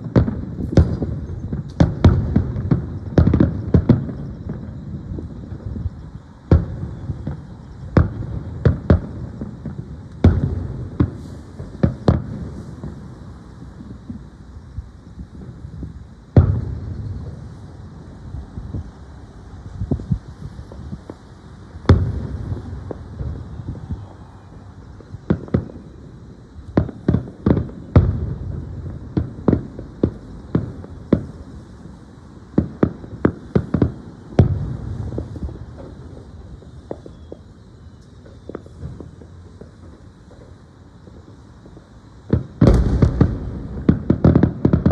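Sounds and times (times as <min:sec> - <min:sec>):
fireworks booming: 0:00.0 - 0:44.9.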